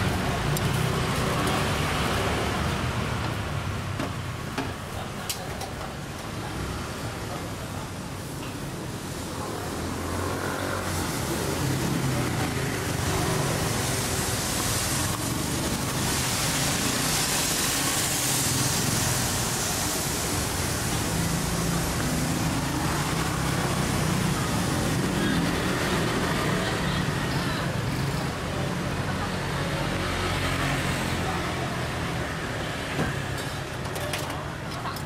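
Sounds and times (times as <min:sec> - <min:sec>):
tyre hiss of passing traffic: 0:00.0 - 0:35.0.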